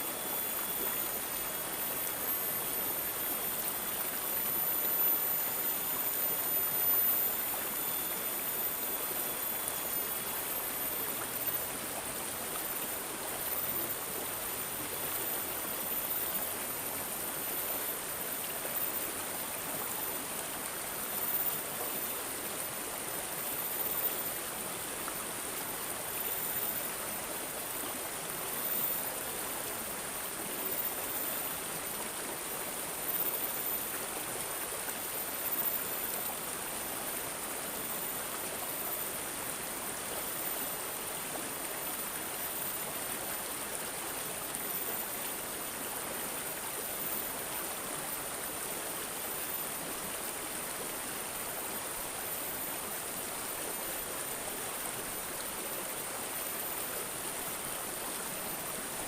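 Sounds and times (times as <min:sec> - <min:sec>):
water babbling and gurgling: 0:00.0 - 0:59.0.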